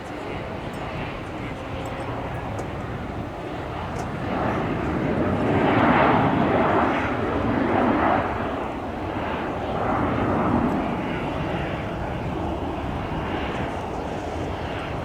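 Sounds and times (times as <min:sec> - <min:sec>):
airliner passing close by: 0:00.0 - 0:15.0.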